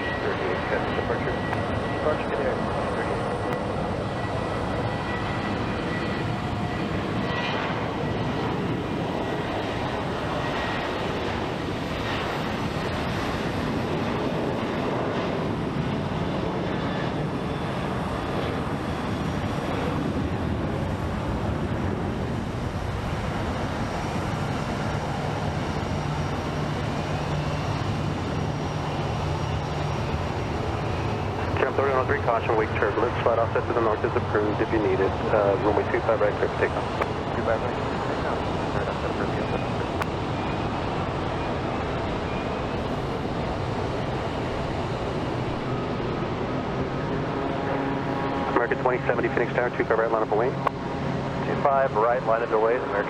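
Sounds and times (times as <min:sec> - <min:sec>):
high engine whine: 0:00.0 - 0:53.0
jet engines at takeoff thrust: 0:00.0 - 0:53.0.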